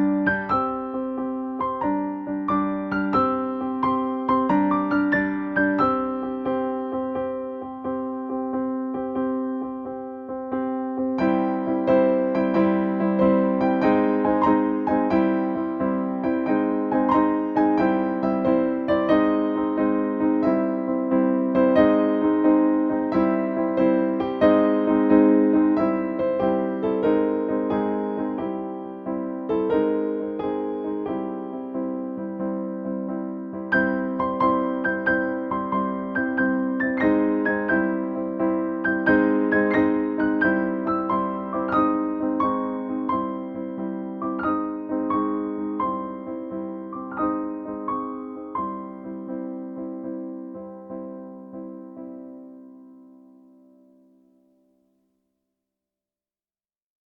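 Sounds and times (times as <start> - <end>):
electric piano chords: 0.0 - 54.2.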